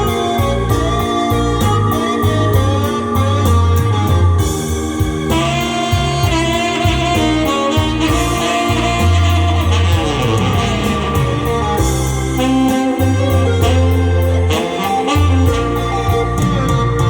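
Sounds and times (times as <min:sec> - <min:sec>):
bass: 0:00.0 - 0:17.0
electric guitar: 0:00.0 - 0:17.0
steady drum beat: 0:00.0 - 0:17.0
tenor saxophone melody: 0:00.0 - 0:17.0.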